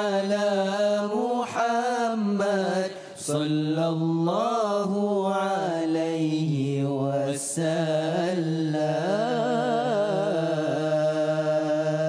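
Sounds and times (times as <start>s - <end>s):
male vocal group singing a cappella: 0.0s - 12.0s.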